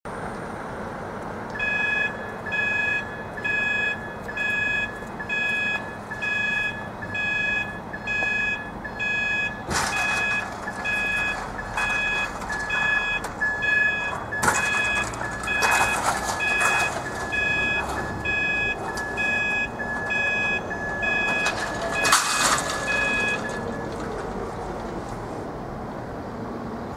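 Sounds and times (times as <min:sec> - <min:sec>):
level crossing warning beeps: 0:01.5 - 0:24.0.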